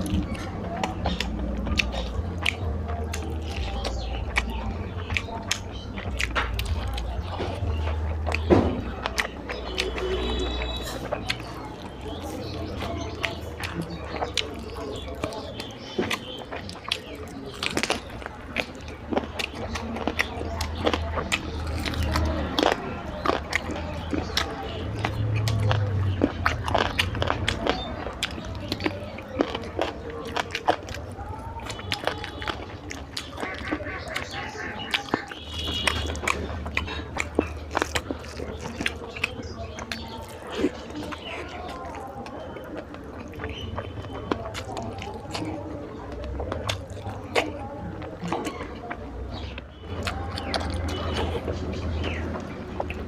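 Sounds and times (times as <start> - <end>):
person chewing with wet smacks: 0.0 - 53.0.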